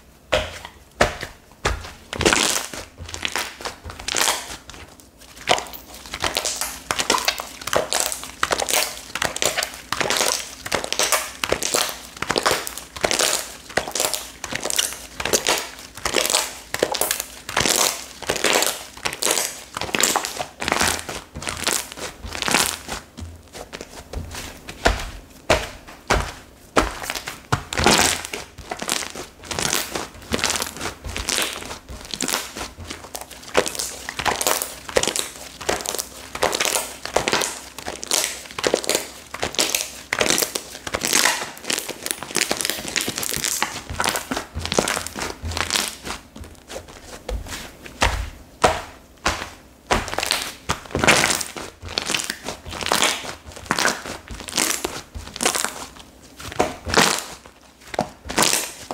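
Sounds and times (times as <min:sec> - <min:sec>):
slime squishing and crackling: 0:00.3 - 0:58.9.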